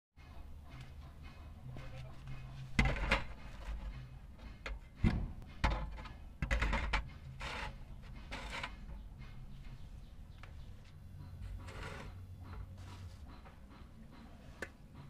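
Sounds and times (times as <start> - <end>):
metal sheet knocking on wood: 0.7 - 14.4.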